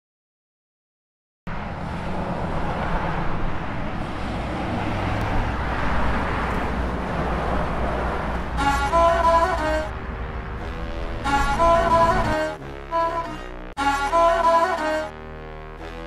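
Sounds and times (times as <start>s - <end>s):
bus engine and road rumble: 1.5s - 16.0s.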